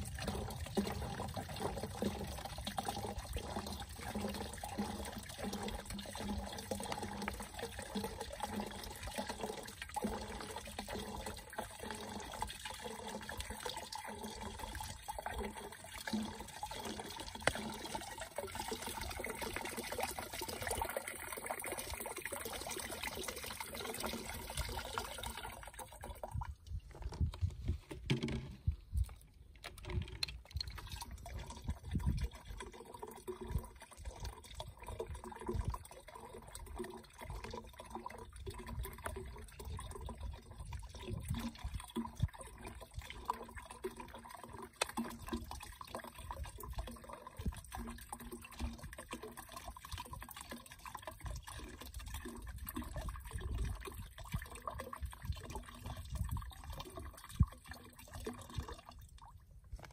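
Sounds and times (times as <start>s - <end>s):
liquid pouring and gurgling: 0.0s - 59.9s.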